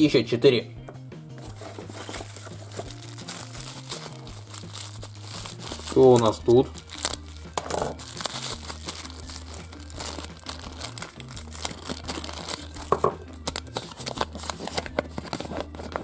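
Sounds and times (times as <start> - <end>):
plastic packaging crinkling: 1.4 - 16.0.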